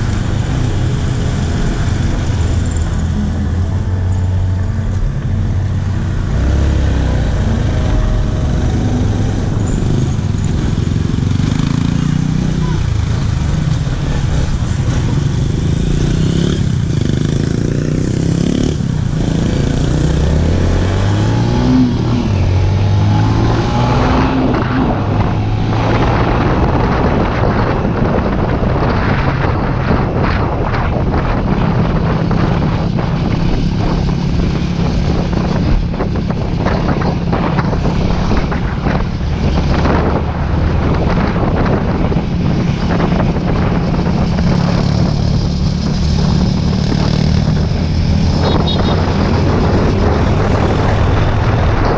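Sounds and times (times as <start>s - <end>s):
motorcycle engine accelerating: 0.0s - 51.9s
wind buffeting microphone: 0.0s - 51.9s.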